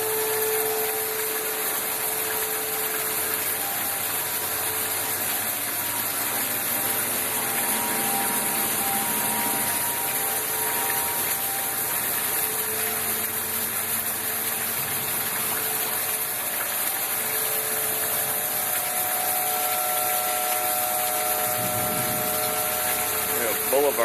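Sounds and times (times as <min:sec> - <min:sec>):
faint engine-like tones: 0:00.0 - 0:24.0
rushing floodwater: 0:00.0 - 0:24.0.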